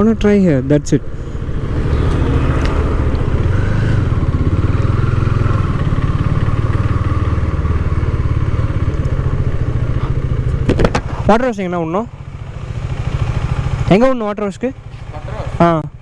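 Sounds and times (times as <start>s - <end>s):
motorcycle engine running: 1.1s - 16.0s.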